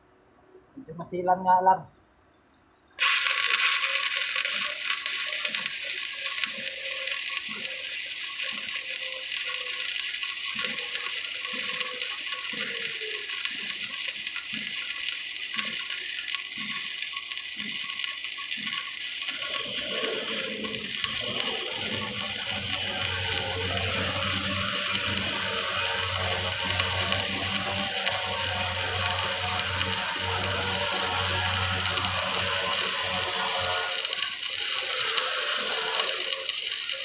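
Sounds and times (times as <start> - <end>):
welding arc crackling: 3.0 - 37.0.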